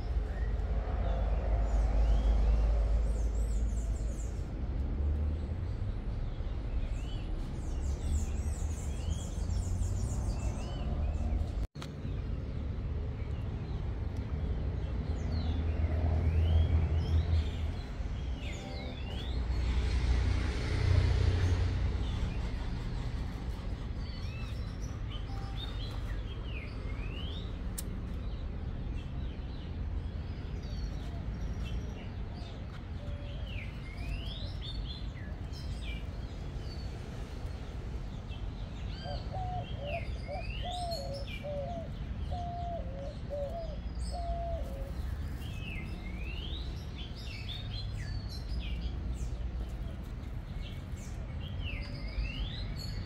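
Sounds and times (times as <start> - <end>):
small birds chirping: 0.0 - 20.4, 21.2 - 53.0.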